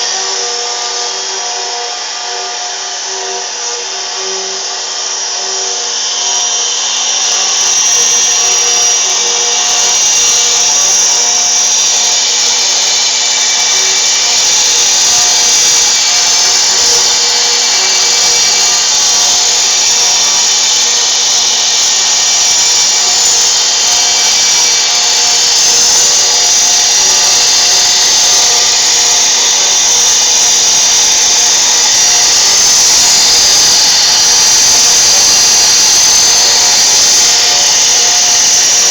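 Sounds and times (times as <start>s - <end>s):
bit cutting into wood: 0.0s - 38.9s
router spindle whining: 0.0s - 38.9s.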